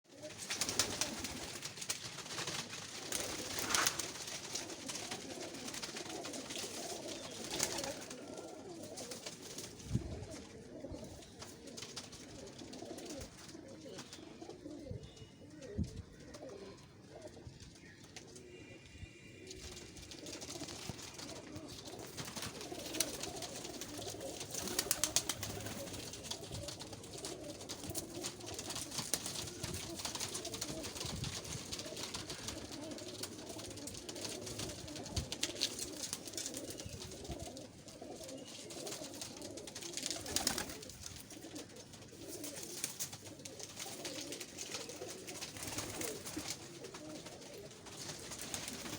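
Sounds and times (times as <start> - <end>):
pigeons cooing: 0.1 - 1.7, 2.4 - 48.9.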